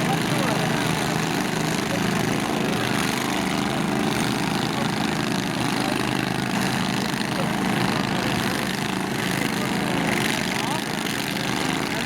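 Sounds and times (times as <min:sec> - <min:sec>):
small lawn tractor engines running: 0:00.0 - 0:12.0.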